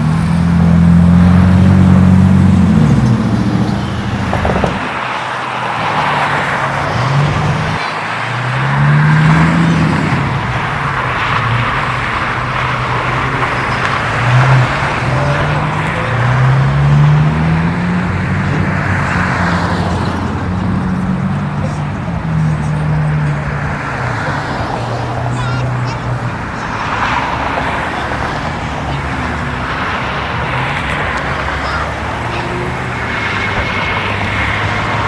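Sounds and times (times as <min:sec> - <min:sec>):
road and traffic noise: 0:00.0 - 0:35.0
vehicle engine revving: 0:00.0 - 0:35.0.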